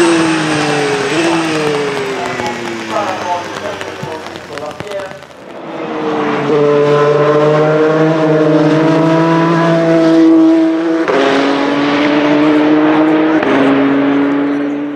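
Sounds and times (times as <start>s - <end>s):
racing engine accelerating and upshifting: 0.0s - 14.9s.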